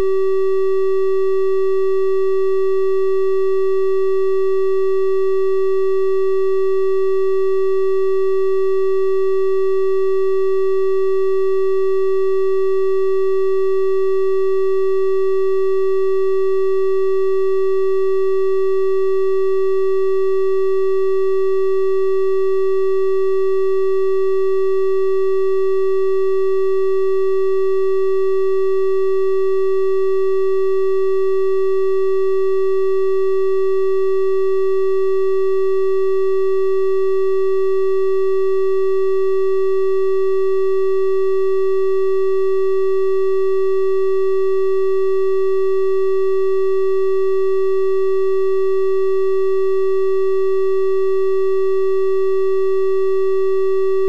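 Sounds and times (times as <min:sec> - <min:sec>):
steady triangle-wave test tone: 0:00.0 - 0:54.0.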